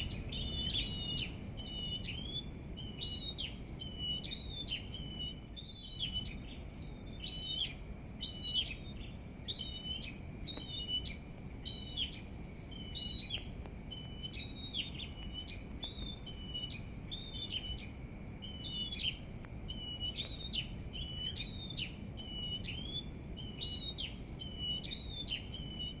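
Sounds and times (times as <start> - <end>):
low outdoor rumble: 0.0 - 26.0
small birds chirping: 0.0 - 26.0.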